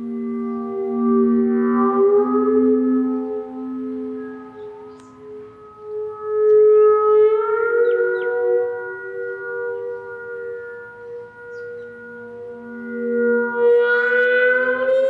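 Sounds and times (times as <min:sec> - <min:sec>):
theremin gliding notes: 0:00.0 - 0:15.0.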